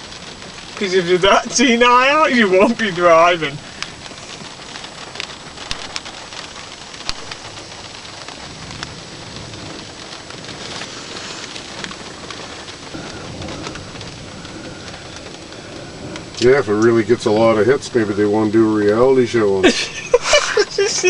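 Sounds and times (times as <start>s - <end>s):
rain hiss: 0.0s - 21.0s
raindrops ticking close by: 0.0s - 21.0s.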